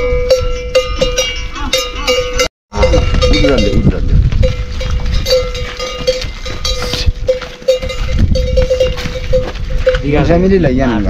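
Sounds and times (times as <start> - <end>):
metal livestock bell clanking: 0.0 - 10.6.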